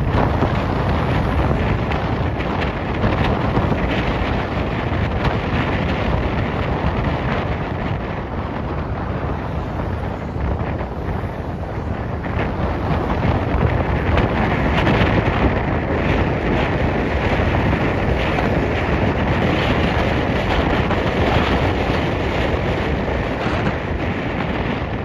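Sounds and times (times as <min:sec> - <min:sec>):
low rumble: 0:00.0 - 0:25.0
wind rushing over microphone: 0:00.0 - 0:25.0.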